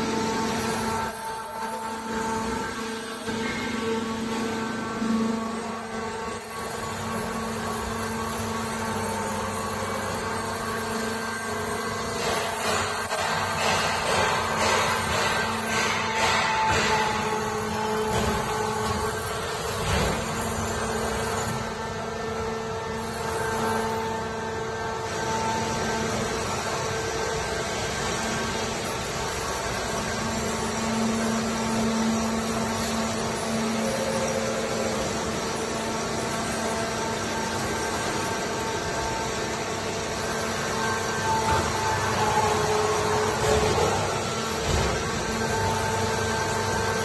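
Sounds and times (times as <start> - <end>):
machine whine: 0.0 - 47.0.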